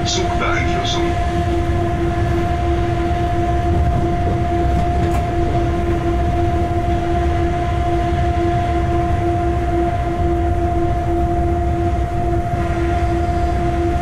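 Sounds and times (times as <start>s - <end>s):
constant humming tones: 0.0s - 14.0s
locomotive low rumble: 0.0s - 14.0s.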